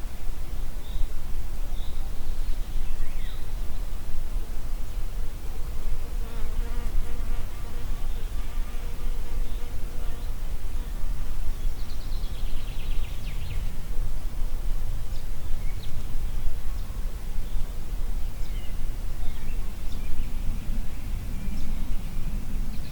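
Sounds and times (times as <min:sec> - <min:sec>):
wind through forest: 0:00.0 - 0:22.9.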